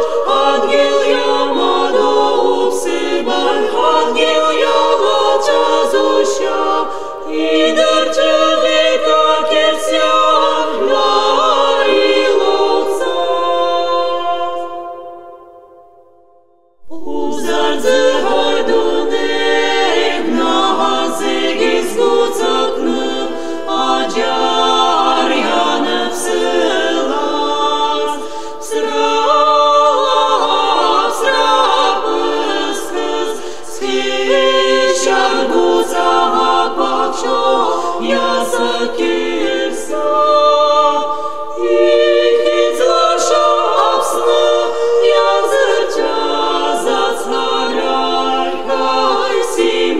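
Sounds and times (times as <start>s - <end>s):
unaccompanied choir singing: 0.0s - 49.9s.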